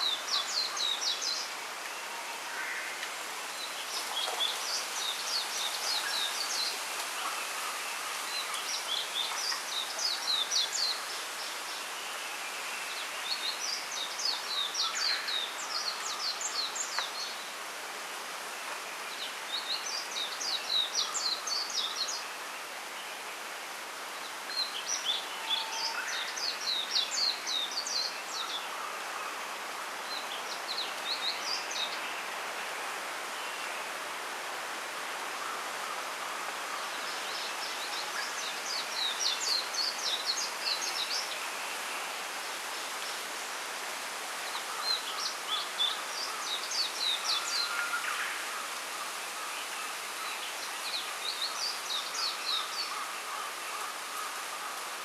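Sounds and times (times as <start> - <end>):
songbird chirping: 0.0 - 17.7, 18.5 - 55.0
wind rustling leaves: 0.0 - 55.0.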